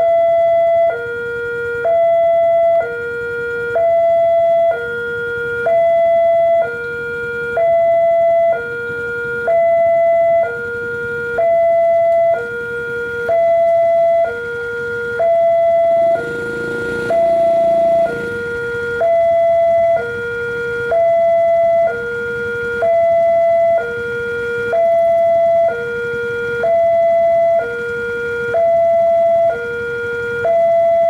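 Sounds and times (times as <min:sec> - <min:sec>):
two-tone level crossing alarm: 0:00.0 - 0:31.0.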